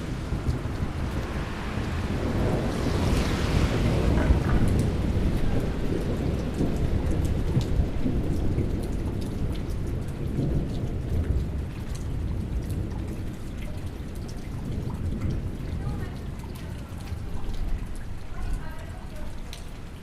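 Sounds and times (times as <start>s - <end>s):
raindrops ticking: 0.0s - 20.0s
steady rain: 0.0s - 20.0s
thunder rumbling: 0.0s - 20.0s.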